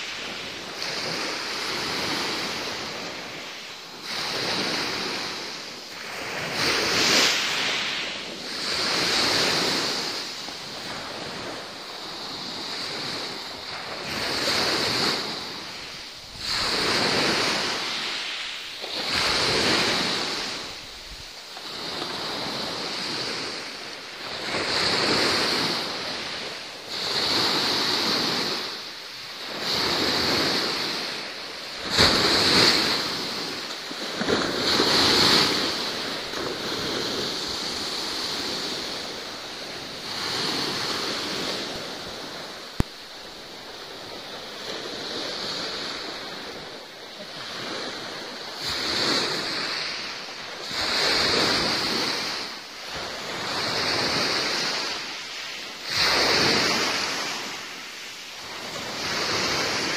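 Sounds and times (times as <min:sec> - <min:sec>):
sea waves washing: 0:00.0 - 0:59.9.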